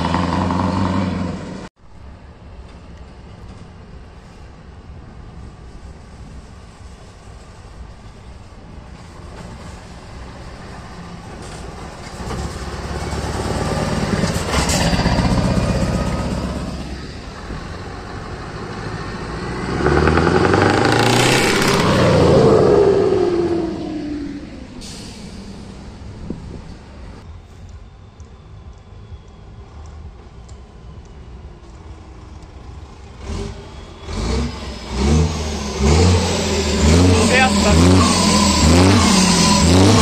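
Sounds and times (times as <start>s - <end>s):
diesel truck engine accelerating: 0.0s - 1.8s, 8.1s - 40.0s.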